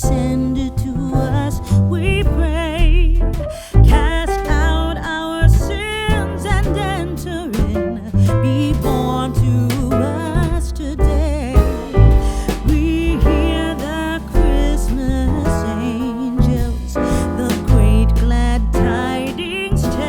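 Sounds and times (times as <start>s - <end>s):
bass line with a beat: 0.0s - 20.0s
person singing: 0.0s - 20.0s.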